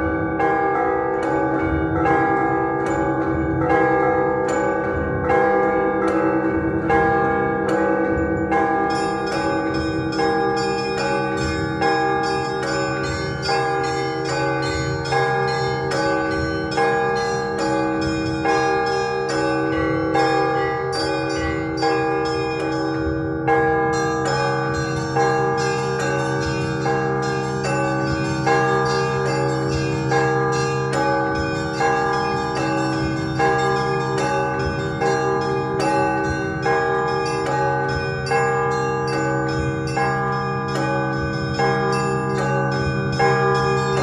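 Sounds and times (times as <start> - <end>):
large low bells ringing: 0.0 - 44.0
small church bells chiming: 0.0 - 44.0.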